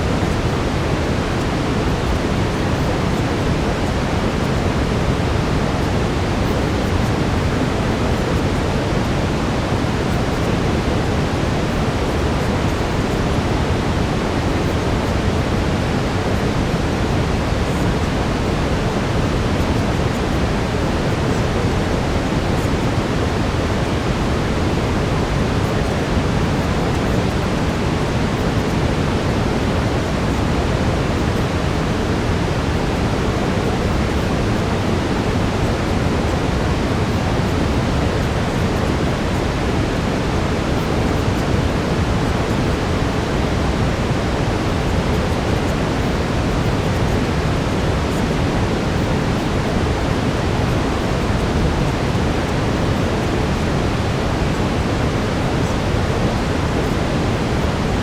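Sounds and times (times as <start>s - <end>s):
brown noise rushing hiss: 0.0s - 58.0s.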